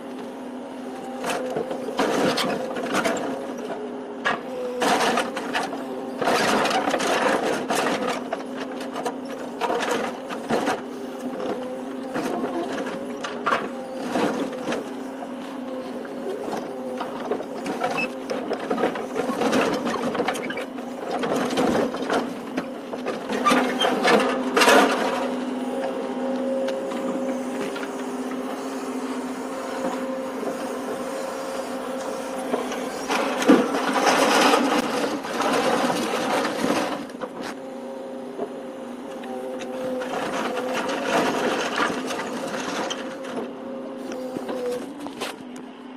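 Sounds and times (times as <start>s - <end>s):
engine and hydraulics droning: 0.0s - 45.9s
scrap metal clanking and crunching: 1.0s - 37.6s, 39.2s - 45.6s.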